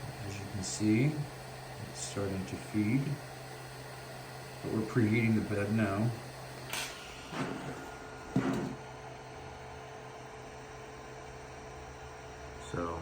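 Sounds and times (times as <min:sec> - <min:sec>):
three d printer humming: 0:00.0 - 0:13.0.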